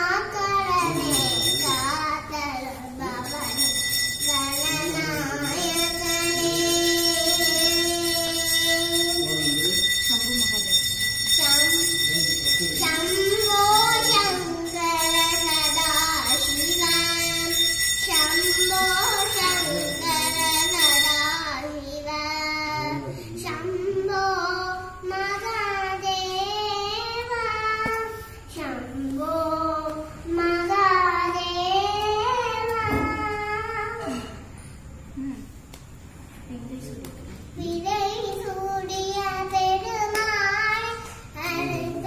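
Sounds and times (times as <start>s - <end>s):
girl singing into microphone: 0.0s - 9.3s, 12.9s - 34.5s, 37.5s - 42.0s.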